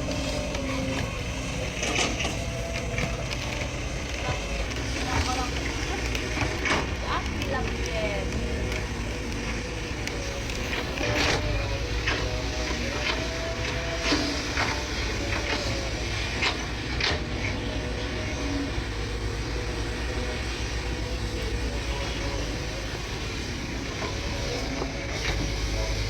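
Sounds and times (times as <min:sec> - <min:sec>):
excavator diesel engine running: 0:00.0 - 0:26.0
hydraulic whine: 0:00.0 - 0:26.0.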